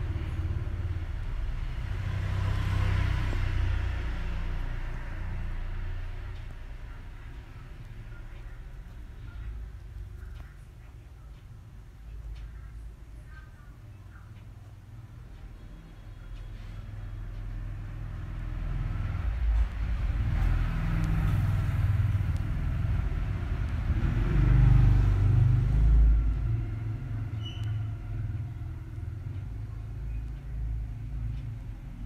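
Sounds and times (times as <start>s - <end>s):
road vehicle rumbling past: 0.0s - 9.4s, 15.3s - 32.0s.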